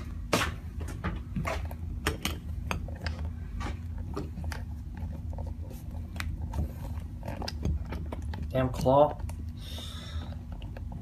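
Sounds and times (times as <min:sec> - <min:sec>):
handling clicks and rustles: 0:00.0 - 0:09.6, 0:10.2 - 0:11.0
steady low hum: 0:00.0 - 0:11.0.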